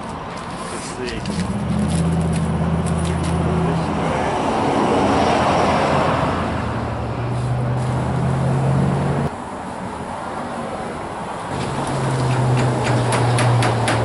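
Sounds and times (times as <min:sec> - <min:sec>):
passing vehicle noise: 0:00.0 - 0:14.0.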